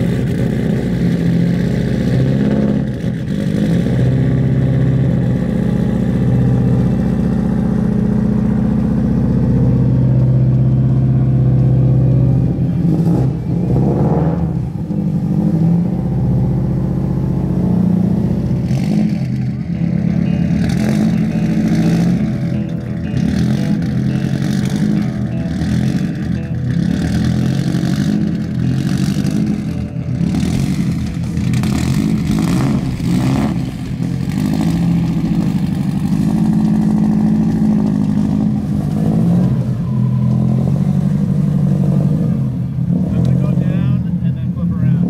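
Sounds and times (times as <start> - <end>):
loud car engine revving: 0.0 - 45.0.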